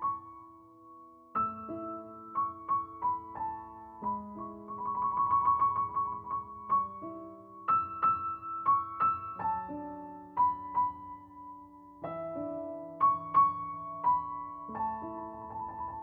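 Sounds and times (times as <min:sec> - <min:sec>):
slow gentle solo piano: 0:00.0 - 0:16.0.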